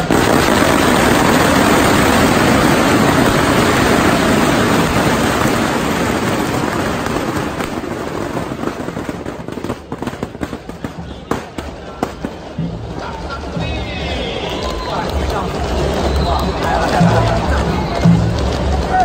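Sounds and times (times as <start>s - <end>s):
firecrackers crackling and banging: 0.0s - 19.0s.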